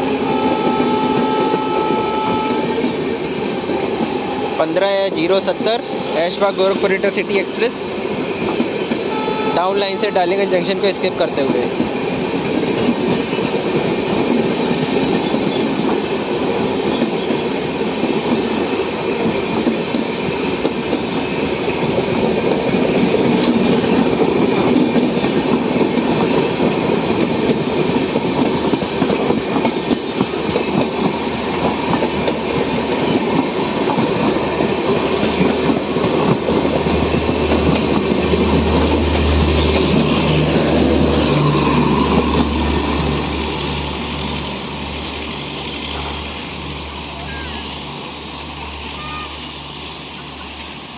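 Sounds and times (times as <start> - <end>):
train wheels rumbling over rails: 0.0 - 50.9.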